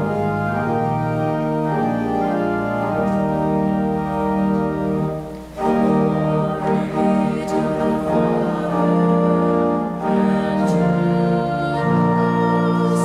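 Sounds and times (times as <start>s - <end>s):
church organ: 0.0s - 13.0s
congregation singing a hymn: 0.0s - 13.0s.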